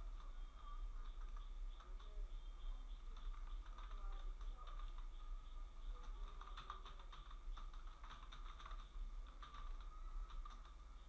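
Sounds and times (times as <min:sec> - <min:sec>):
steady low hum: 0:00.0 - 0:11.0
typing on computer keyboard: 0:01.0 - 0:10.8.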